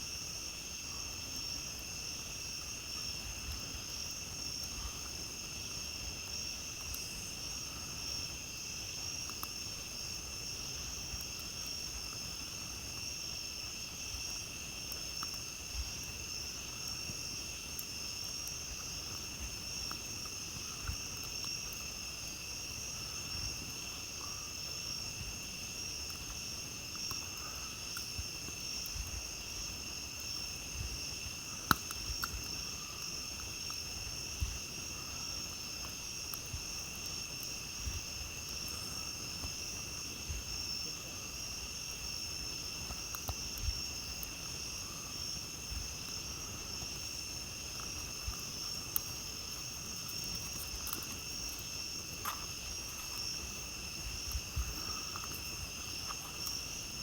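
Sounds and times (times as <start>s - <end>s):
night insects chorus: 0.0s - 57.0s
campfire crackling: 0.1s - 57.0s.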